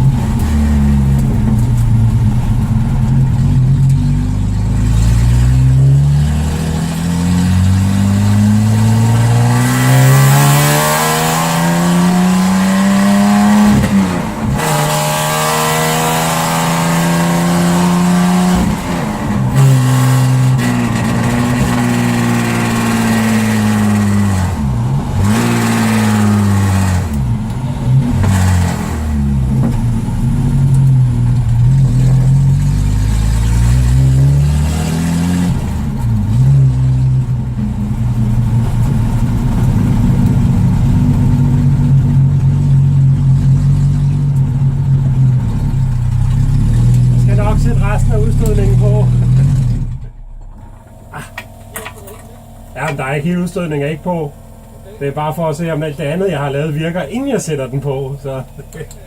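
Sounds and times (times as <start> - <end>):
unsilenced car engine accelerating: 0.0 - 59.0.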